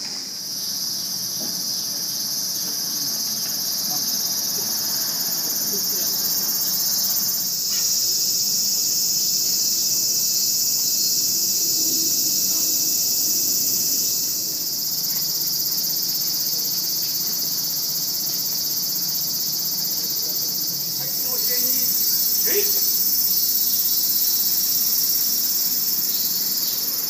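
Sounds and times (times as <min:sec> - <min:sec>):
cicadas calling: 0:00.0 - 0:27.0.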